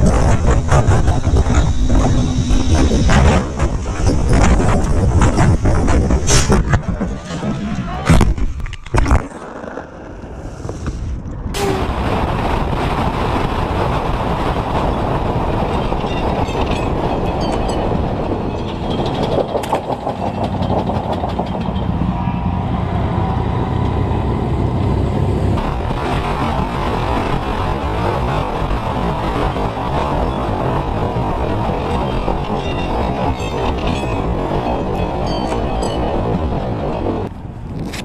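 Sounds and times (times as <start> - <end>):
vehicle road noise at speed: 0.0 - 38.0.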